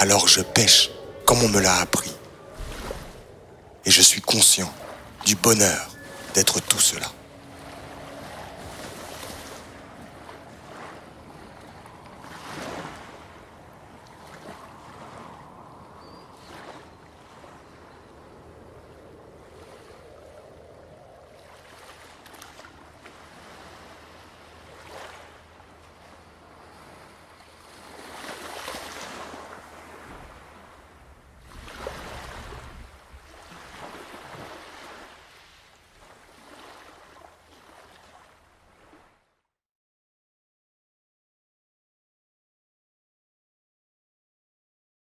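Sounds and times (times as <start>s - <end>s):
sea waves washing in: 0.0s - 39.2s.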